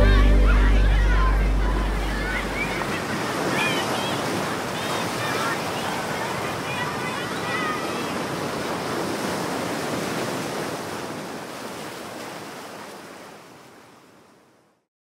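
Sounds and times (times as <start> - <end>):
ocean surf washing onto beach: 0.0 - 14.5.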